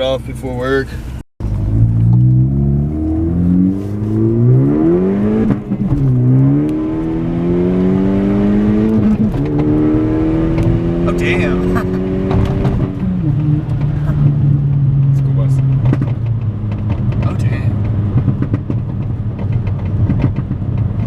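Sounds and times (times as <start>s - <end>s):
car engine accelerating: 1.1s - 21.0s.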